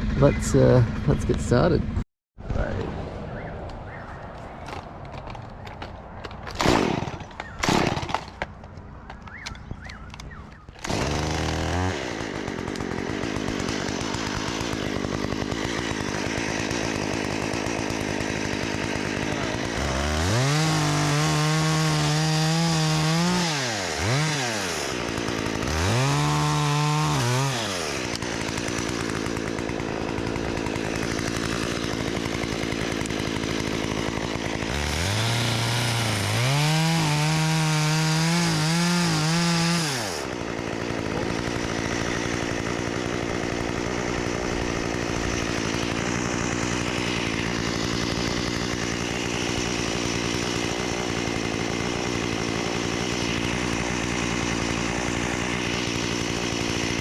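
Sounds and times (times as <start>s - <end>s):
chainsaw starting and revving: 0.0s - 2.0s, 6.6s - 8.5s, 10.8s - 57.0s.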